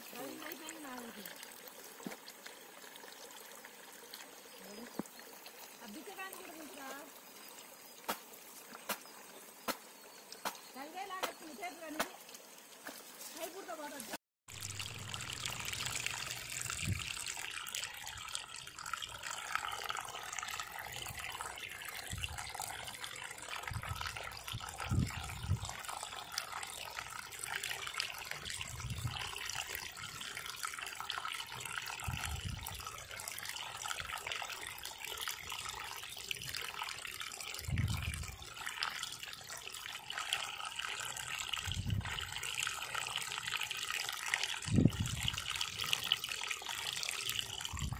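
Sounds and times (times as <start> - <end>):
water splashing trickle: 0.0 - 47.9.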